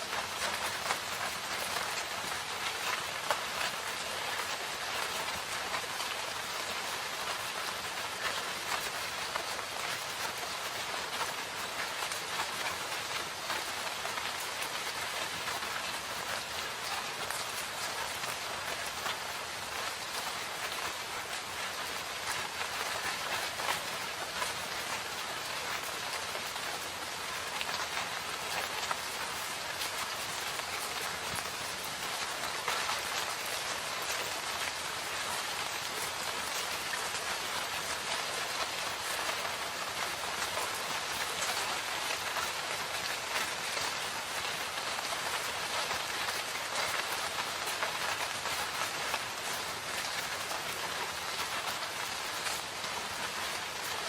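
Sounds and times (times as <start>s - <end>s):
raindrops pattering on surfaces: 0.0s - 54.0s.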